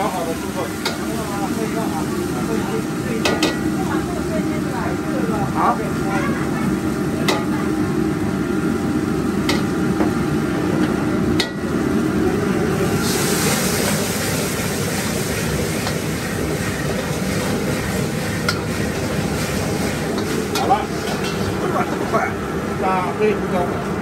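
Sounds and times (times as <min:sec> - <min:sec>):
loud sizzling hiss: 0:00.0 - 0:23.6
gas burner roaring: 0:00.0 - 0:24.0.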